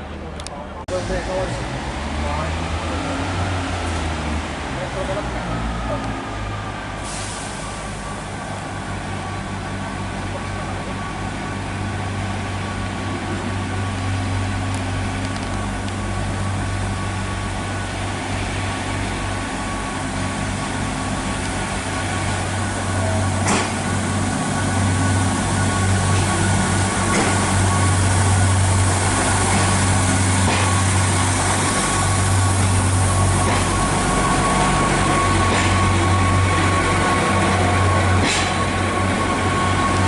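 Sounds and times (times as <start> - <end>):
train engine hum: 0.0 - 40.0.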